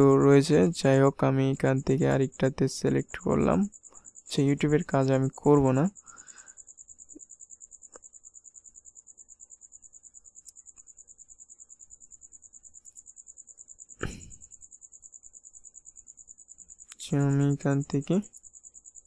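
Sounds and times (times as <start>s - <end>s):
faint high-pitched pulsing trill: 0.0s - 19.0s.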